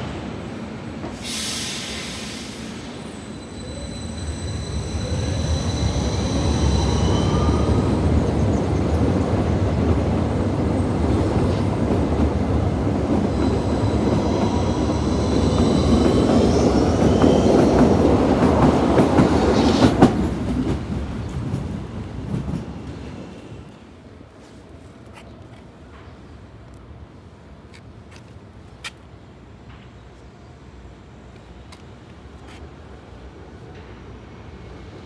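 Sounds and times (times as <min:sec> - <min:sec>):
train rolling rumble: 0:00.0 - 0:30.1.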